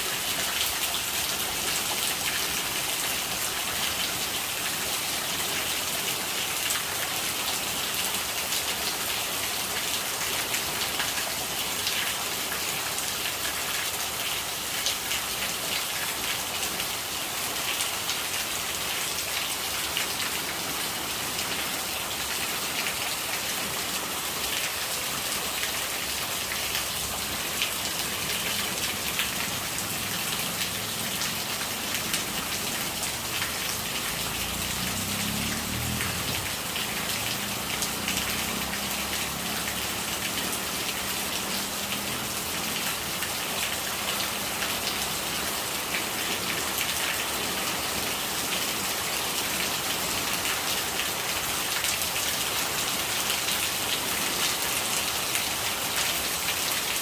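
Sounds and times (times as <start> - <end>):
rain pattering on a surface: 0.0 - 57.0
rainwater gurgling: 0.0 - 57.0.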